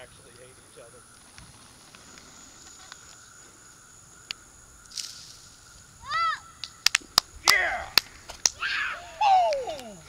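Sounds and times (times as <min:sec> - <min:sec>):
high insect trill: 0:00.0 - 0:10.0.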